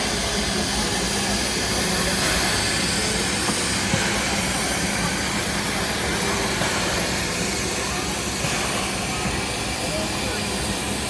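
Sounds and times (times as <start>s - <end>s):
steam train rumble and hiss: 0.0s - 11.0s.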